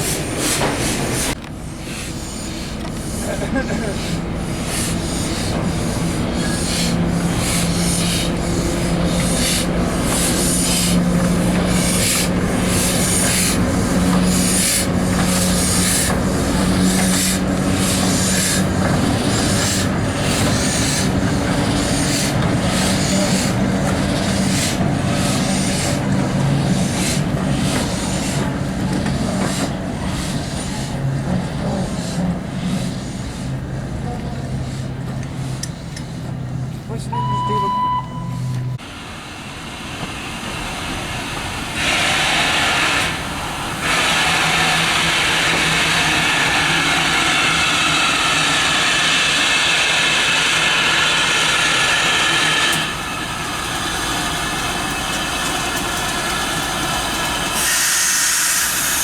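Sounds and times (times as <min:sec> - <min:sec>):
steam train running: 0:00.0 - 0:59.0.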